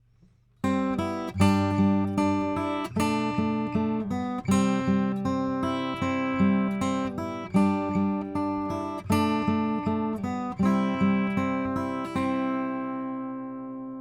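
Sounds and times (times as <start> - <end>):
acoustic guitar strumming chords: 0.6 - 14.0.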